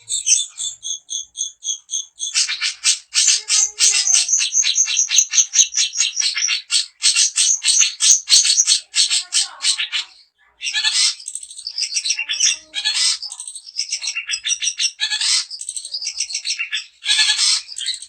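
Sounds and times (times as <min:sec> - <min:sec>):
bird harsh chattering: 0:00.0 - 0:18.0.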